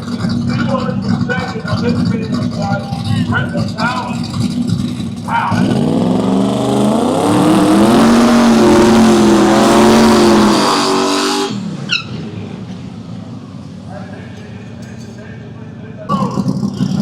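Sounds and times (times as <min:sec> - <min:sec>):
drag racing car engine accelerating: 0:00.0 - 0:13.8, 0:16.0 - 0:17.0.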